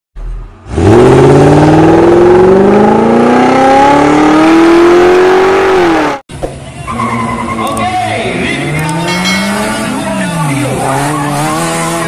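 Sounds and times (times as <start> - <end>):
car engine accelerating hard: 0.3 - 6.2, 8.2 - 12.0.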